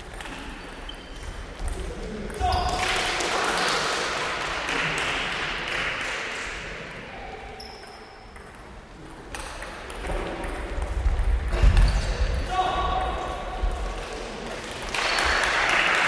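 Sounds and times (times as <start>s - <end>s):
noise of people in a hall: 0.0s - 16.0s.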